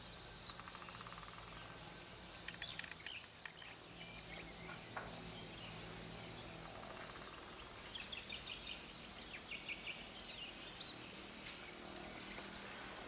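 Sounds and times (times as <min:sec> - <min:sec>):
high insect hum: 0:00.0 - 0:13.0
small birds chirping: 0:00.0 - 0:13.0.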